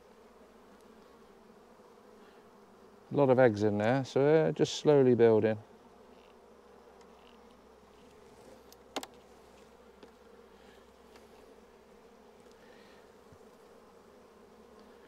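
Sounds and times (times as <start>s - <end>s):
honeybees humming: 0.0s - 15.0s.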